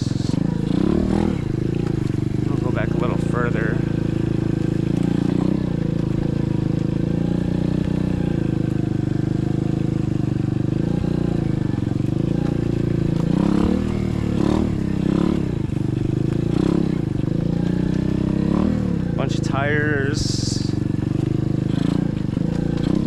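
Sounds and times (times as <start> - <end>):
dirt bike engine with throttle blips: 0.0 - 23.0.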